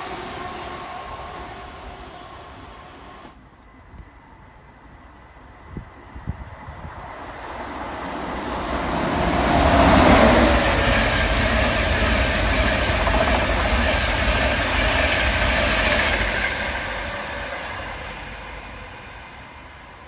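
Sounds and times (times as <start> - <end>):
electric train passing: 0.0 - 20.0
train wheels rumbling on rails: 0.0 - 20.0.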